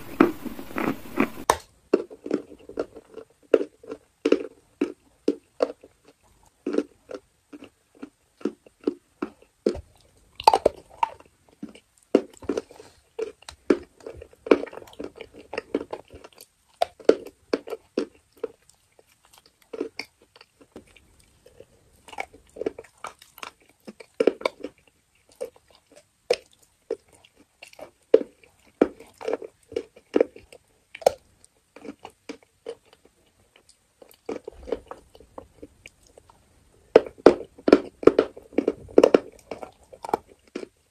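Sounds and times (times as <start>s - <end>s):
crunchy chewing close up: 0.0s - 40.9s.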